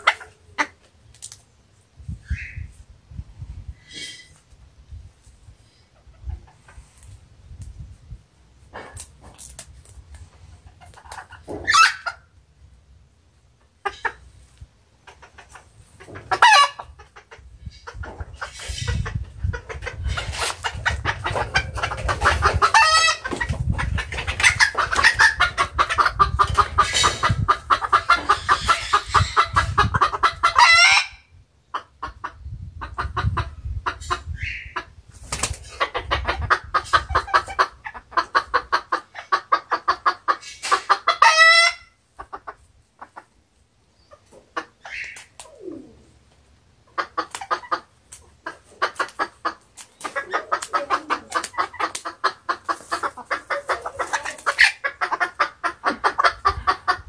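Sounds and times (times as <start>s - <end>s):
chickens clucking and squawking: 0.0s - 1.0s, 2.0s - 9.4s, 10.0s - 57.0s.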